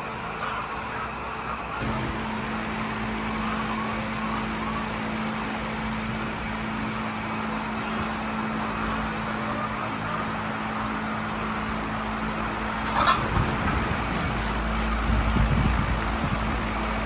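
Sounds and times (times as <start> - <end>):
noisy background: 0.2 - 17.0
steady machine hum: 1.2 - 17.0.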